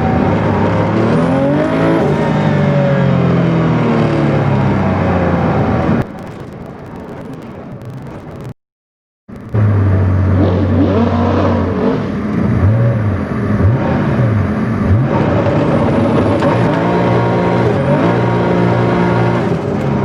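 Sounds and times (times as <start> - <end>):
car engine revving hard: 0.0 - 6.1, 9.5 - 20.0.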